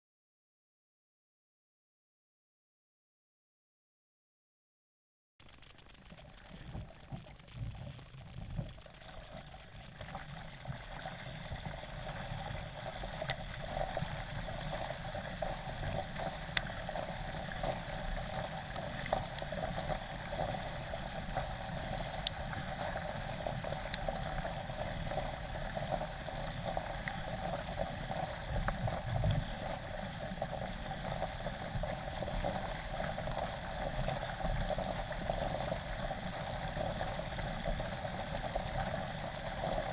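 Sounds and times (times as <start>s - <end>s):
water rushing along kayak hull: 6.5s - 39.9s.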